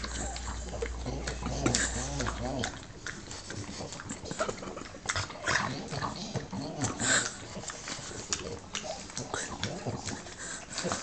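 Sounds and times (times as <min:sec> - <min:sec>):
dog breathing noisily: 0:00.0 - 0:11.0
dog grunting: 0:00.0 - 0:11.0
dog licking and smacking: 0:00.0 - 0:11.0.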